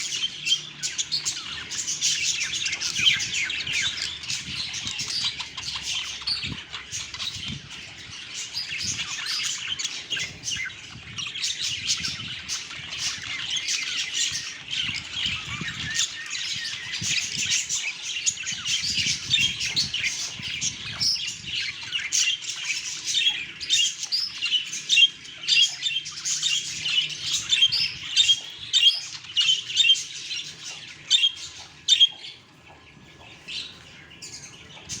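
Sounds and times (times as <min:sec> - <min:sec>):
budgerigars chattering and chirping: 0:00.0 - 0:35.0.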